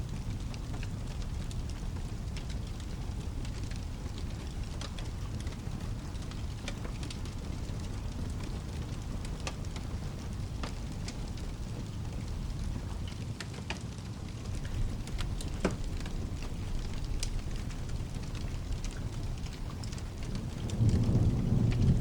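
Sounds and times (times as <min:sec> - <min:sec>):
fireplace crackling: 0:00.0 - 0:22.0
rain: 0:00.0 - 0:22.0.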